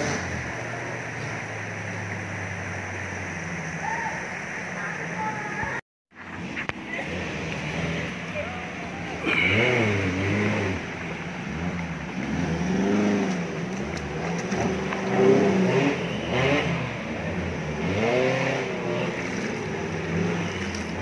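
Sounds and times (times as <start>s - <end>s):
off-road vehicle engine revving: 0.0s - 3.8s, 6.3s - 21.0s.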